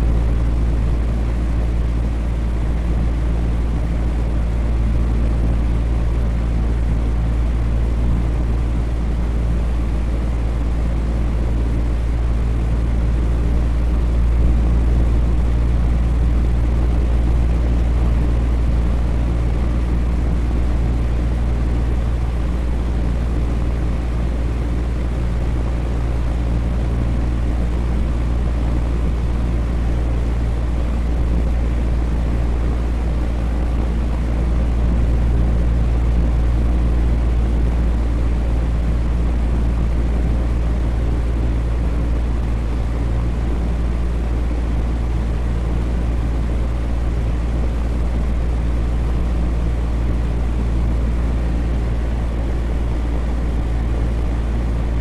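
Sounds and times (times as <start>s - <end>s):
electric fan humming: 0.0s - 55.0s.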